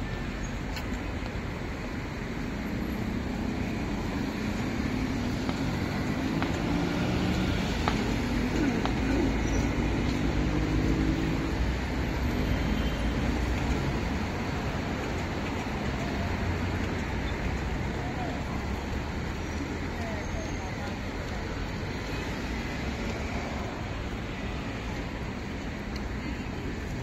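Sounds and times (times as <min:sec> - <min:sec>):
street traffic: 0:00.0 - 0:27.0.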